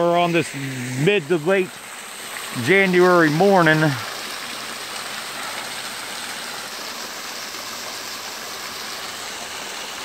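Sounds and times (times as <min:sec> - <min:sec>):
water splashing down rocks: 0:00.0 - 0:10.0.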